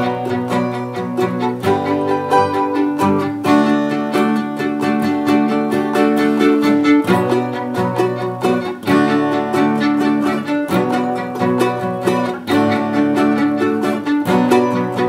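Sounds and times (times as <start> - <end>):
bowed string line: 0.0 - 15.0
plucked strings strumming: 0.0 - 15.0.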